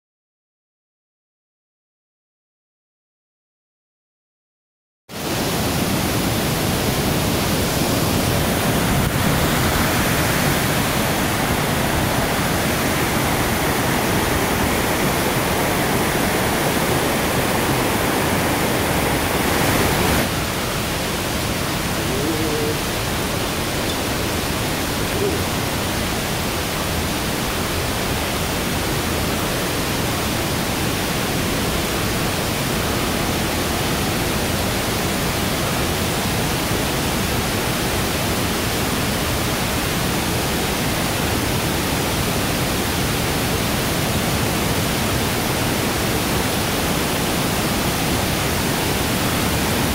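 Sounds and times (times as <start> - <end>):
rushing water hiss: 5.2 - 49.9.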